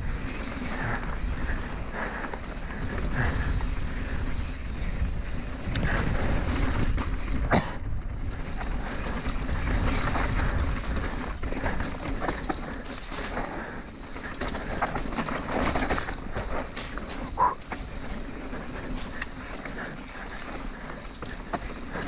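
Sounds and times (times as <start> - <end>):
bike rattle and tyre noise: 0.0 - 22.0
wind on microphone: 0.0 - 22.0.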